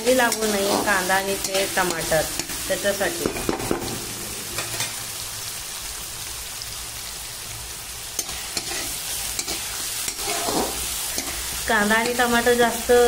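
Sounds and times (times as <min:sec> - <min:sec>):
onion and tomato sizzling in oil: 0:00.0 - 0:13.0.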